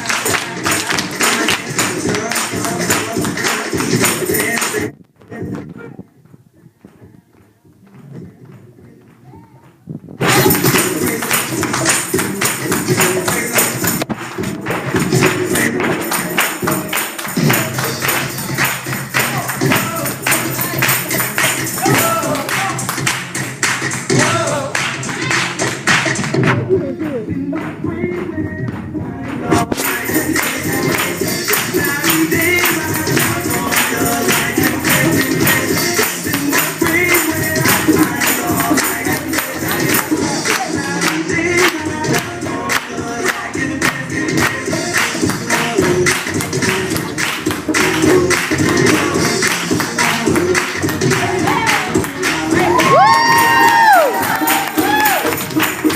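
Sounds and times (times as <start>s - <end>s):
tambourine shaken in rhythm: 0.0s - 4.9s, 10.2s - 55.9s
loud music with fast beat: 0.0s - 5.0s, 10.2s - 55.9s.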